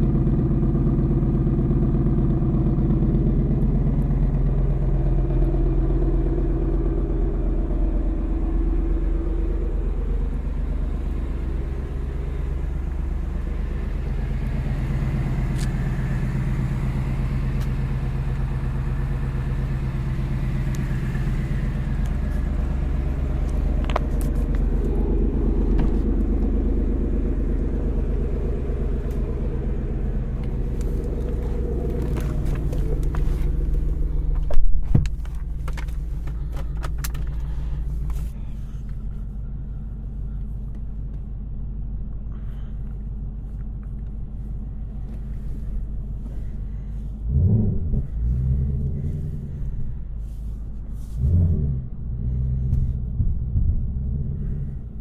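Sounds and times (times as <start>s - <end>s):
car engine and exhaust running: 0.0s - 55.0s.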